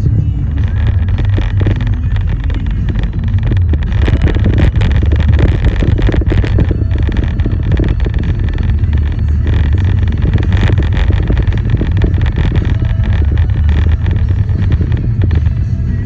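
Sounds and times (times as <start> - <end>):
constant crackle: 0.0 - 16.0
vehicle road rumble: 0.0 - 16.0.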